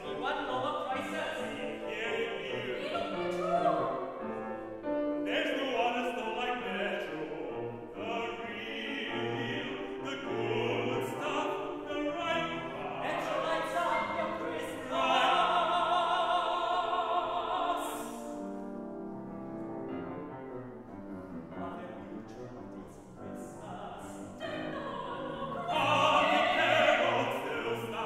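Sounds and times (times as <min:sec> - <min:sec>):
operatic singing: 0:00.0 - 0:18.6, 0:21.4 - 0:28.0
grand piano accompaniment: 0:00.0 - 0:28.0.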